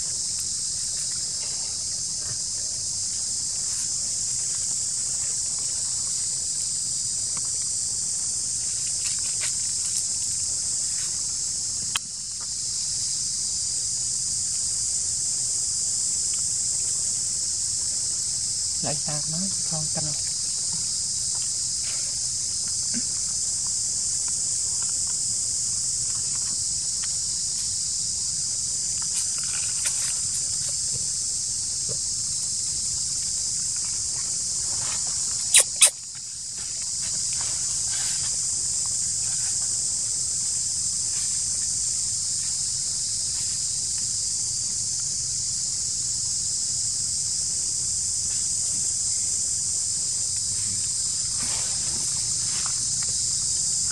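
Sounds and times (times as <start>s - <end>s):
insect chorus drone: 0.0s - 53.9s.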